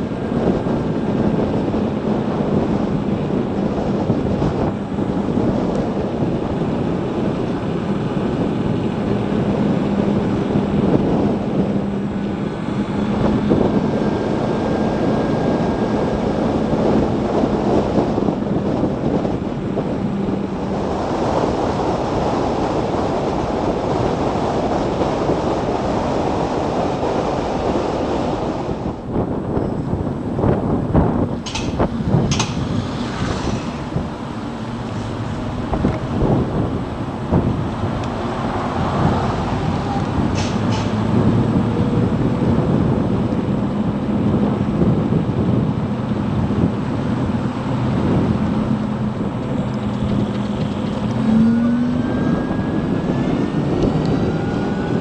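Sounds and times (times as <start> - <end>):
road noise: 0.0 - 55.0
wind rushing over microphone: 0.0 - 55.0.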